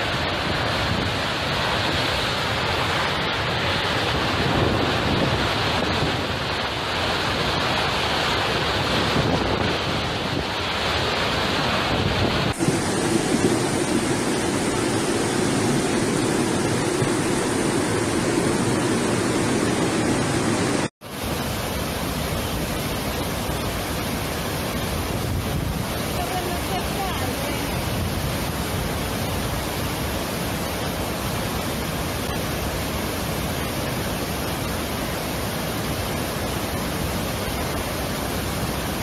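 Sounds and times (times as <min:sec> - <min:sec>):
wind on microphone: 0:00.0 - 0:02.3, 0:03.0 - 0:34.7
floodwater rushing over rocks: 0:00.0 - 0:39.0.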